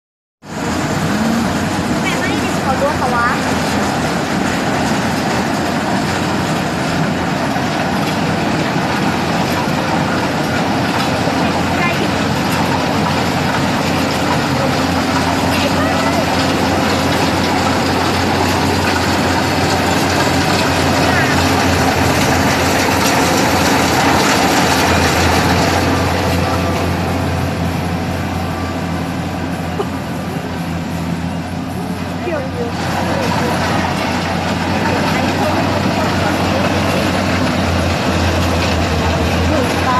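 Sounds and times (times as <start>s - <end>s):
combine harvester running: 0.4s - 39.9s.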